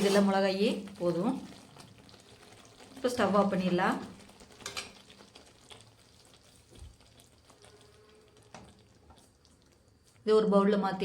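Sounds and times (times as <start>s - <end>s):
gravy sizzling in a pan: 0.0s - 10.3s.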